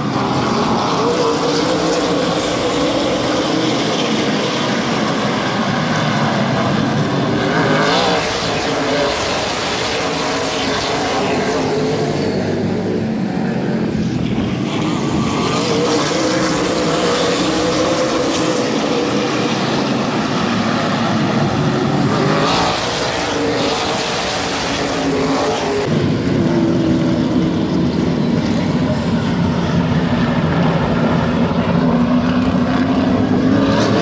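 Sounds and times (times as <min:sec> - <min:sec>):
race cars engines roaring past: 0:00.0 - 0:34.0.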